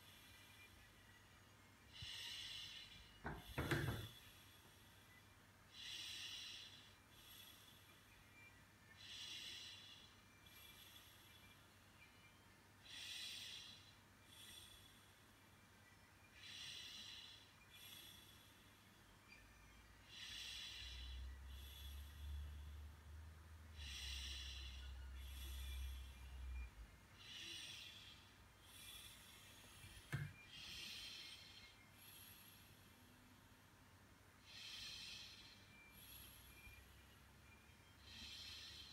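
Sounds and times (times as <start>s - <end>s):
soft breathing: 0.0s - 38.9s.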